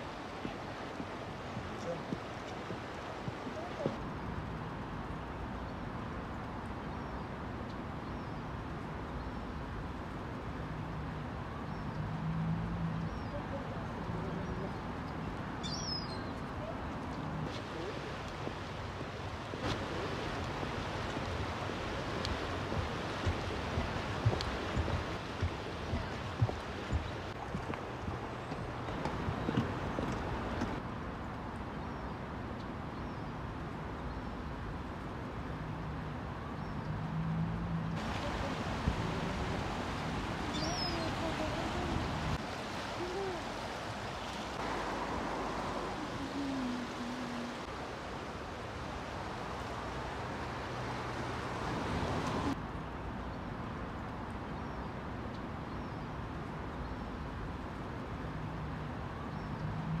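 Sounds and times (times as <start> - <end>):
road noise: 0.0 - 60.0.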